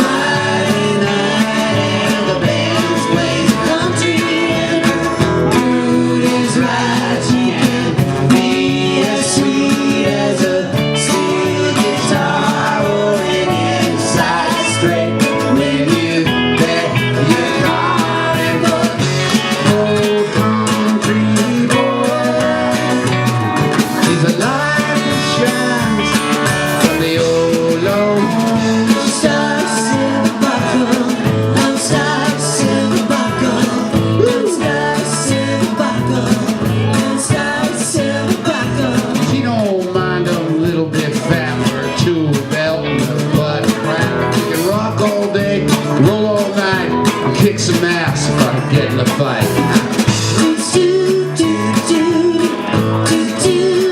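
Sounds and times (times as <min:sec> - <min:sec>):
live country band playing: 0:00.0 - 0:53.9.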